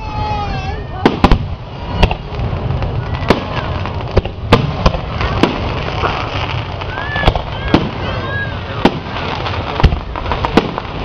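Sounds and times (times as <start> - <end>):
firework shells bursting: 1.0 - 11.0.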